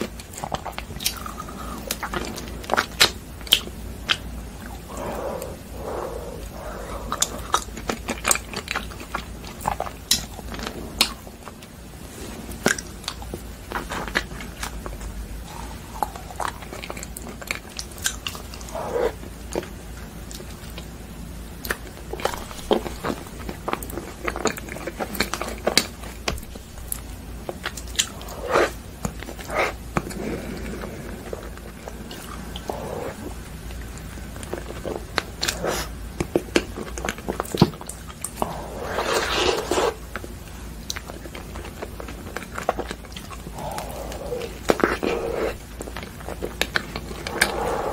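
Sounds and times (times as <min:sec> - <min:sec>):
person biting and chewing ice cream: 0:00.0 - 0:11.7, 0:12.6 - 0:19.7, 0:21.6 - 0:47.9.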